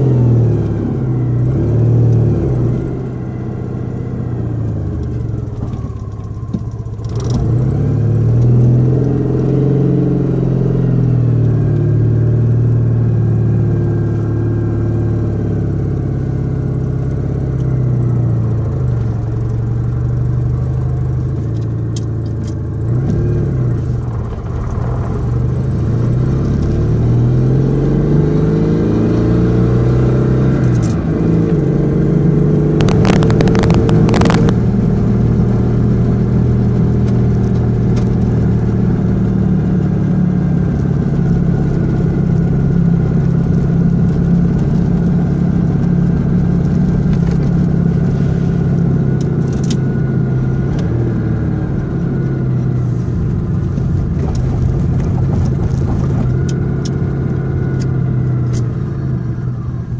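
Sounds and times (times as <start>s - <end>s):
car engine from inside cabin: 0.0s - 59.9s.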